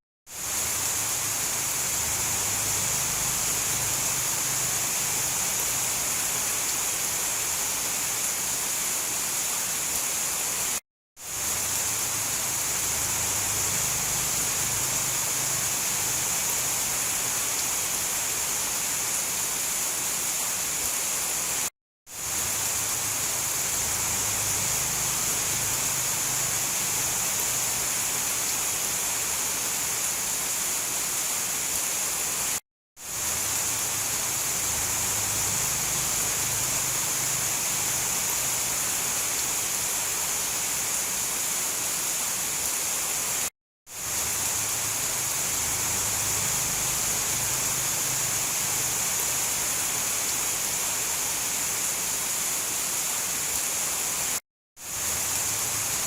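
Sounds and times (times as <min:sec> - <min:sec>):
heavy rain hiss: 0:00.3 - 0:56.0.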